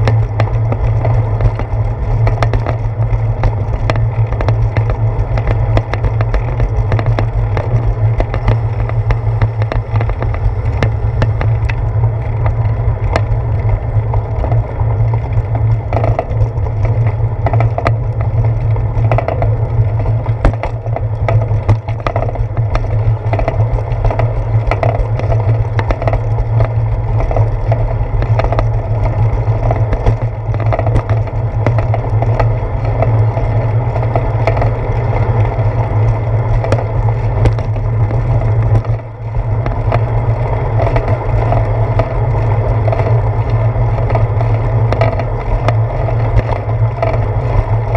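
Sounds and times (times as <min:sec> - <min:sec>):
bicycle rolling on pavement: 0:00.0 - 0:47.9
small clicks and rattles: 0:00.0 - 0:47.9.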